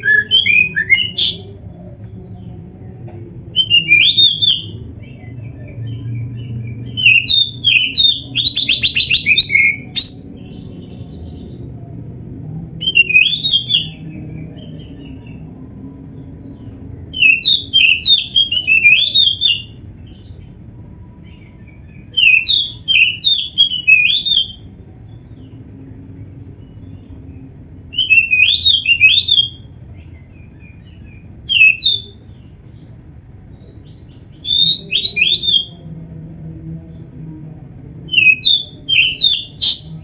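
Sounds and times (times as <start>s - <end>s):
bird singing: 0.0s - 12.0s, 12.6s - 40.0s
faint low hum: 0.0s - 40.0s.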